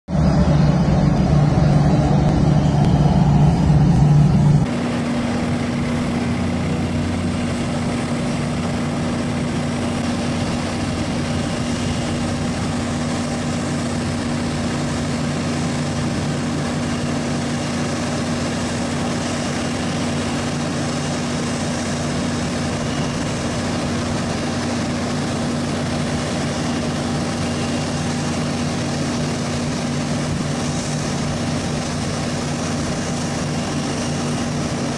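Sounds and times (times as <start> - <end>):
jet airliner engines running: 0.0 - 34.9
low engine whine: 0.0 - 34.9.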